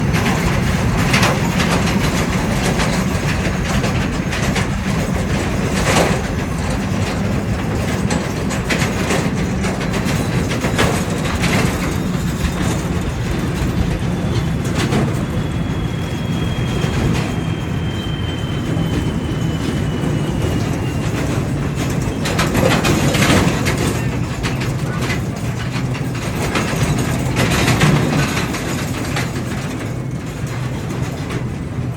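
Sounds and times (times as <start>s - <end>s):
heavy truck rumbling: 0.0s - 31.9s
truck knocks and rattles: 0.0s - 31.9s.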